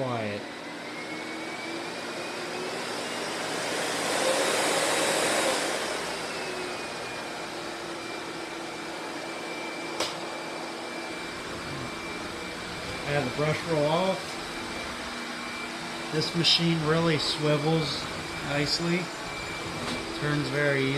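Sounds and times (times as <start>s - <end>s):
upright vacuum cleaner running: 0.0s - 20.9s.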